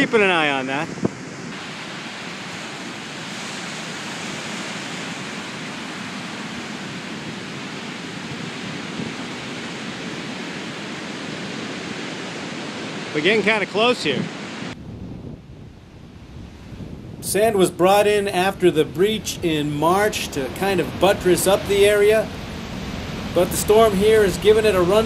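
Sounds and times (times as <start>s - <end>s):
waves breaking on beach: 0.0s - 14.8s, 15.8s - 25.0s.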